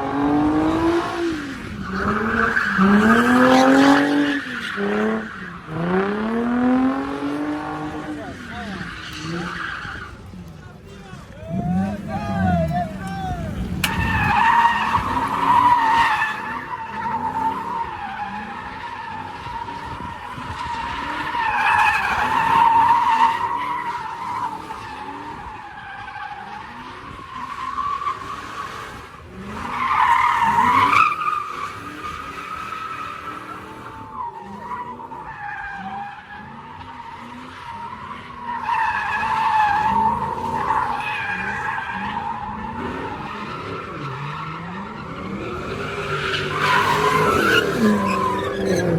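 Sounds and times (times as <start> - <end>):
car tires squealing: 0.0 - 48.9.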